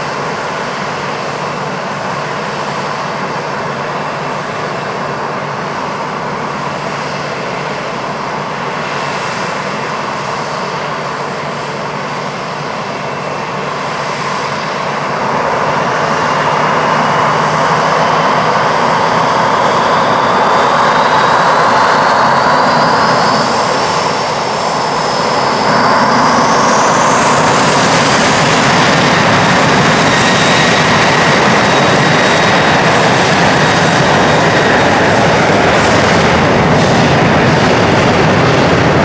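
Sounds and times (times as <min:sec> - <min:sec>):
jet engines spooling up: 0:00.0 - 0:39.0.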